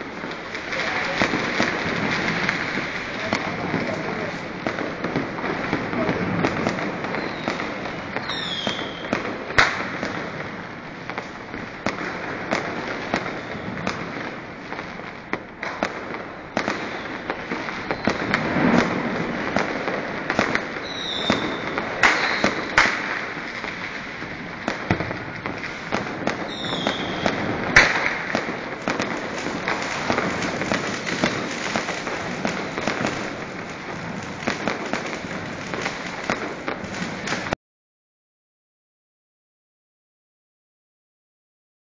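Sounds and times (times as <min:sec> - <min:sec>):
firecrackers crackling: 0:00.0 - 0:37.6
loud sharp firework bangs: 0:00.0 - 0:37.6.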